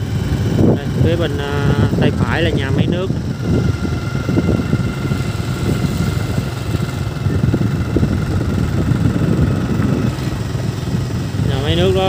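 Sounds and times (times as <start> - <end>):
motorbike engine running: 0.0 - 12.0
wind rumble on microphone: 0.0 - 12.0.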